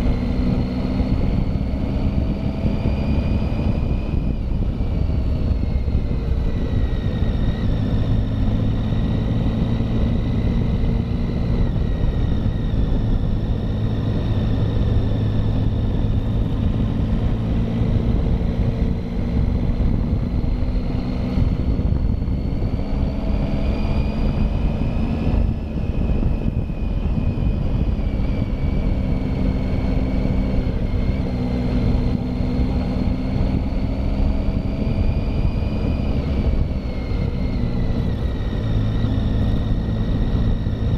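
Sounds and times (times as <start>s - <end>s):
motorcycle engine cruising: 0.0s - 40.9s
wind rush: 0.0s - 40.9s.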